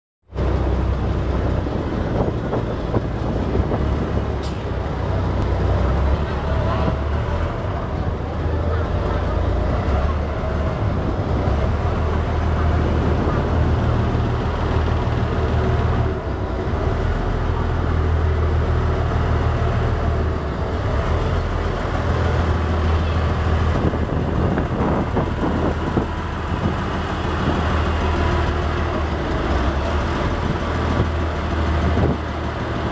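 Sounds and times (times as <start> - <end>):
continuous rushing noise: 0.3 - 32.9
ferry engine humming: 0.3 - 32.9.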